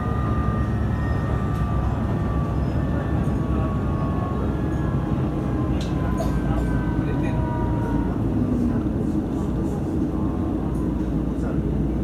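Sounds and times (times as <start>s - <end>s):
railcar engine and wheels rumbling: 0.0s - 12.0s.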